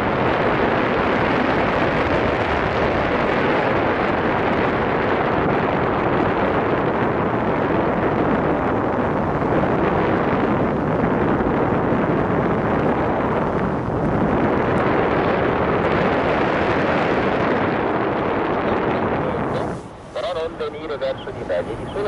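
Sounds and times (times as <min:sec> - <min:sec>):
wind noise over microphone: 0:00.0 - 0:22.0.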